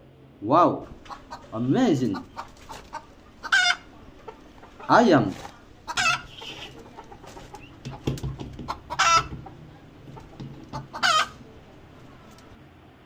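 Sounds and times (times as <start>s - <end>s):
chickens clucking: 0.8s - 12.6s
loud chicken calls: 0.8s - 12.6s.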